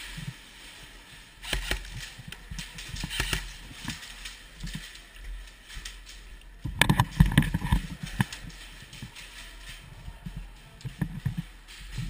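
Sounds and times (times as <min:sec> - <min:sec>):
footsteps and gear clicks: 0:01.4 - 0:12.0.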